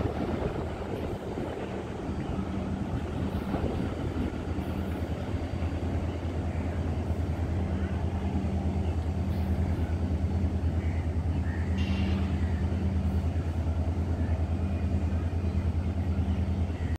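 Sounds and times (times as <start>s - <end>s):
locomotive engine low pulsing hum: 0.0s - 16.9s.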